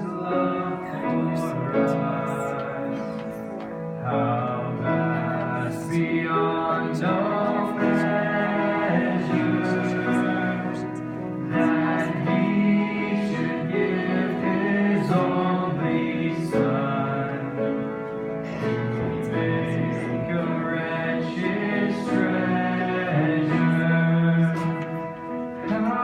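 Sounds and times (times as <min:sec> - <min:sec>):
guitar accompaniment: 0:00.0 - 0:26.0
person singing worship song: 0:00.0 - 0:26.0.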